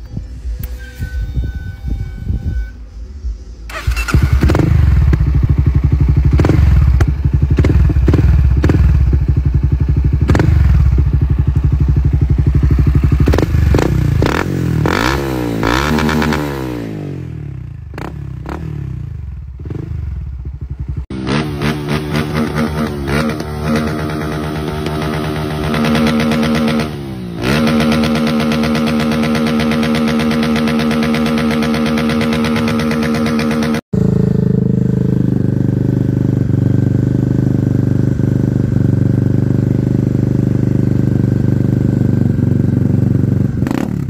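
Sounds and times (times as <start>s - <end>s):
motorcycle engine revving on limiter: 3.7s - 44.0s.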